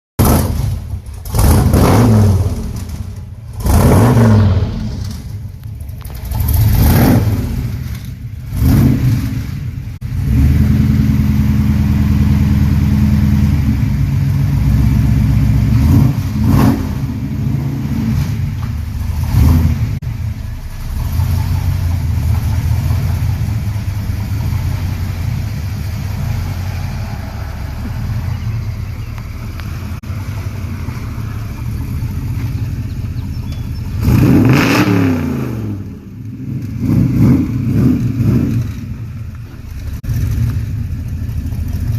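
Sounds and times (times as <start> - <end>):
engine revving and idling: 0.2 - 41.9.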